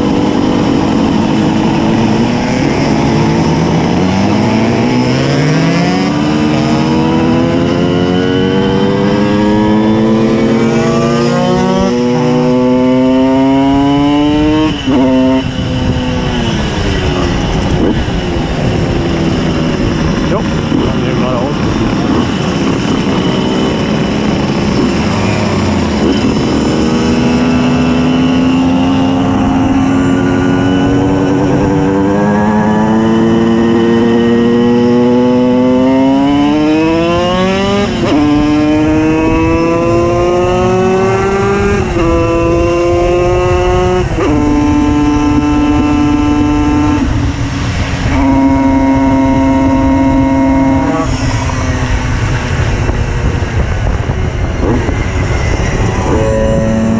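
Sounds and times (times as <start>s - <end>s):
moped engine accelerating: 0.0s - 56.9s.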